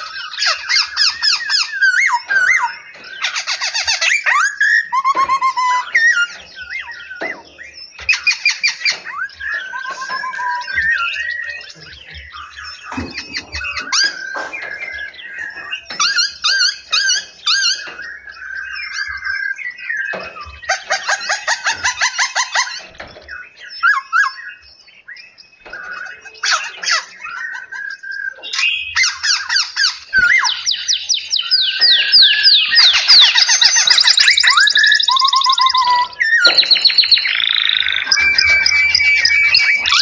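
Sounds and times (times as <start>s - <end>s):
songbirds singing and calling: 0.0s - 40.0s.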